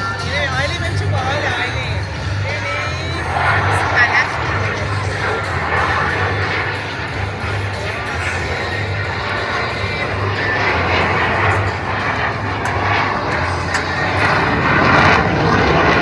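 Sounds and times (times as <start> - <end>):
fighter jets roaring: 0.0 - 16.0.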